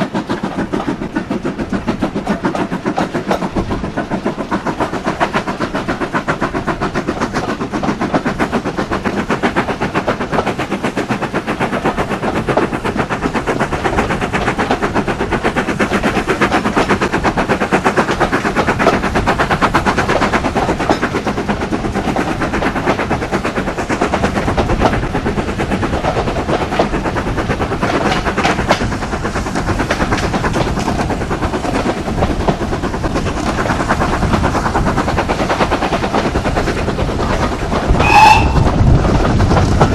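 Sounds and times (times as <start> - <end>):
train running with rapid beat: 0.0 - 39.9.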